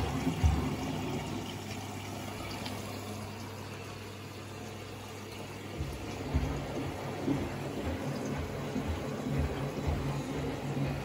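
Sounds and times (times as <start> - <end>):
low motor hum: 0.0 - 11.0
water sloshing in washing machine: 0.0 - 11.0.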